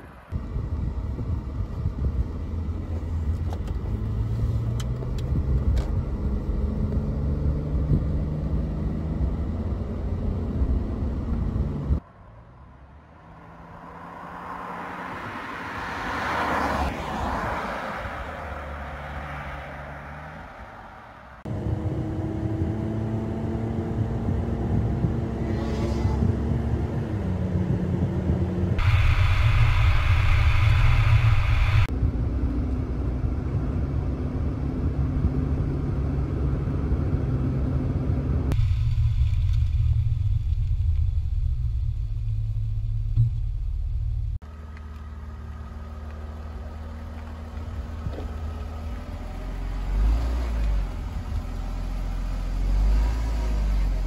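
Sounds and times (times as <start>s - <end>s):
car engine accelerating through gears: 0.5s - 12.0s, 13.2s - 38.6s, 42.3s - 54.0s.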